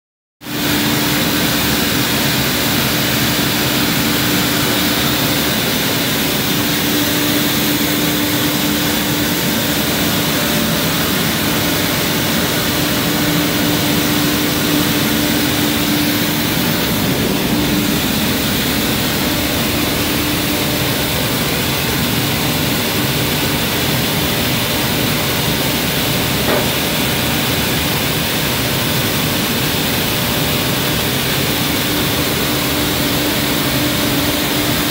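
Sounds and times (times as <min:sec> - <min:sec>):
constant machine hum: 0:00.4 - 0:34.9
industrial machine noise: 0:00.4 - 0:34.9.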